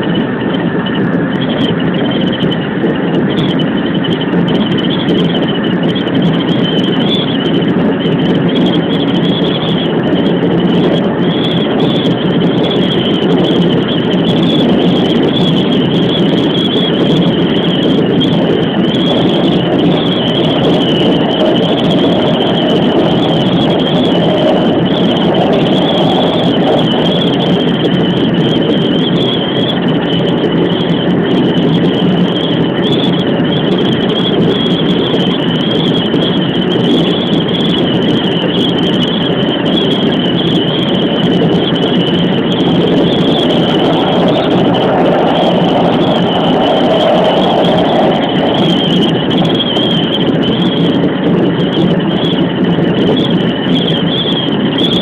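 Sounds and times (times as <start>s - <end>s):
high-pitched whine: 0.0s - 55.0s
train wheels rumbling on rail: 0.0s - 55.0s.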